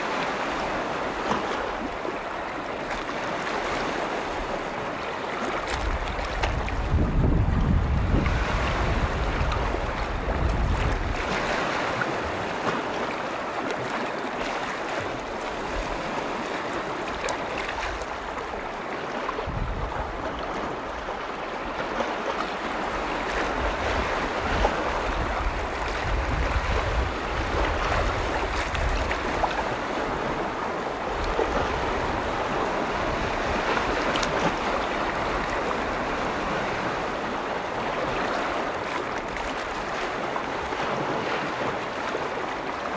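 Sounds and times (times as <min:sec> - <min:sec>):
lake waves splashing: 0:00.0 - 0:42.9
wind rumbling on microphone: 0:00.0 - 0:42.9.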